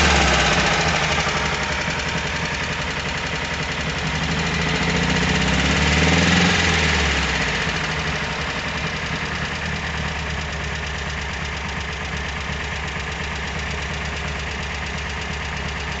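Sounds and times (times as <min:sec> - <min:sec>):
car engine knocking and revving: 0:00.0 - 0:16.0.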